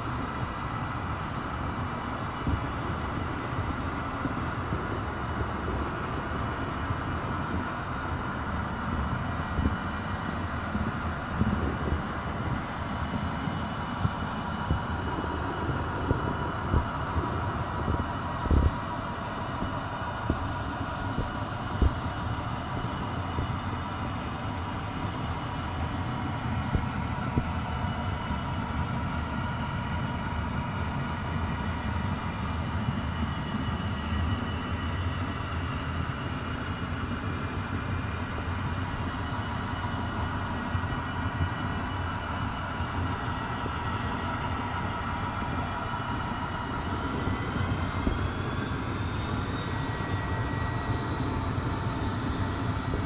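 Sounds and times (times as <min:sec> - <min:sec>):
faint steady tones: 0:00.0 - 0:53.0
train rumble on rails: 0:00.0 - 0:53.0.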